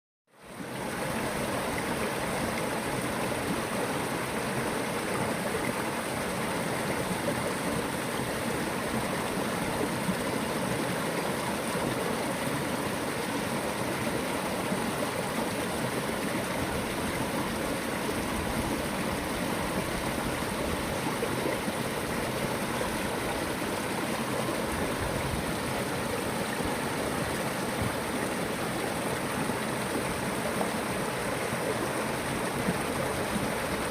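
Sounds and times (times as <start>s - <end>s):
stream water running: 0.3s - 33.9s.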